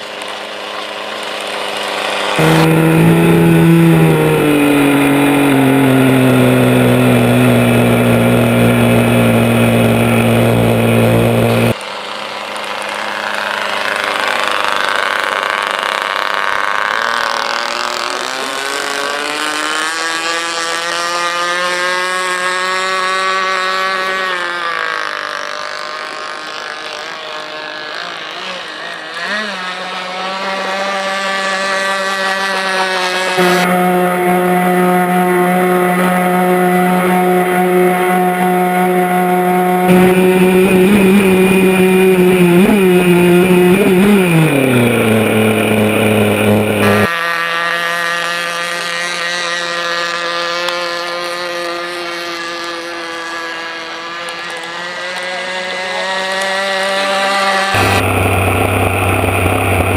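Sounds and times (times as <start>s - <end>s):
model boat engine whining: 0.0s - 59.9s.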